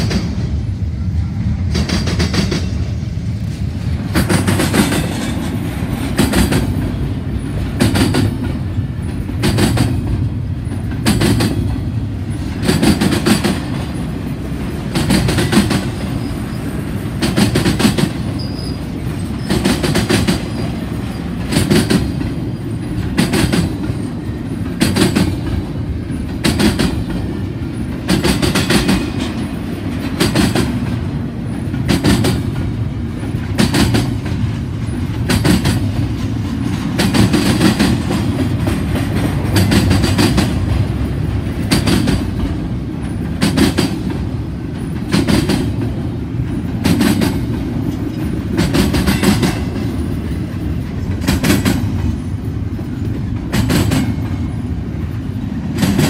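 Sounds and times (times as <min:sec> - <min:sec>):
train rumbling past: 0:00.0 - 0:56.0
wheels clacking over track joints: 0:03.4 - 0:56.0.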